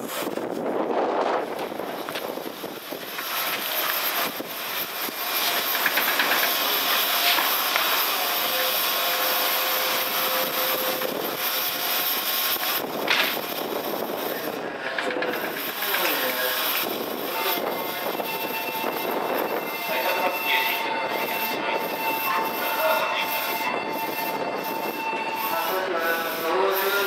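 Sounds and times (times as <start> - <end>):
train equipment hissing: 0.0 - 27.0.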